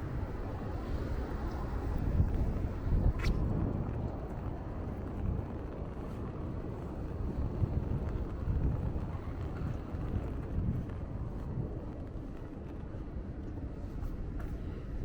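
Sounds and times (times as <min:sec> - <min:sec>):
outdoor street ambience: 0:00.0 - 0:15.0
wind buffeting microphone: 0:00.0 - 0:15.0.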